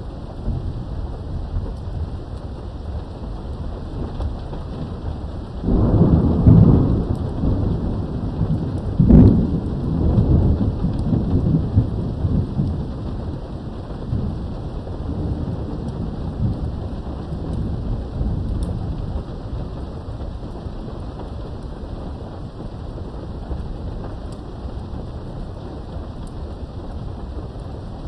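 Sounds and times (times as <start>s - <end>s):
steady rain: 0.0s - 28.0s
thunder rolling and cracking: 0.2s - 28.0s.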